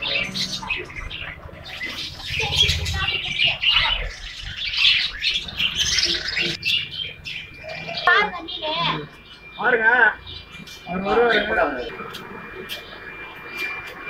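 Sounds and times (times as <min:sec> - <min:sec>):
budgerigars chattering and chirping: 0:00.0 - 0:14.0.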